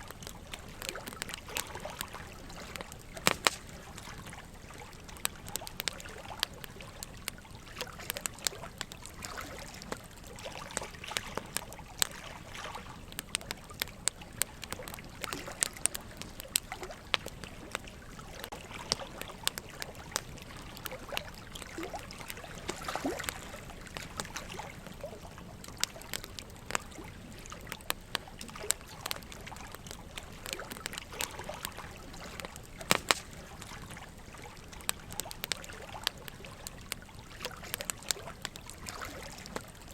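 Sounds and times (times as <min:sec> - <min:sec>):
running water trickling: 0:00.0 - 0:39.9
wood fire crackling and popping: 0:00.0 - 0:39.9.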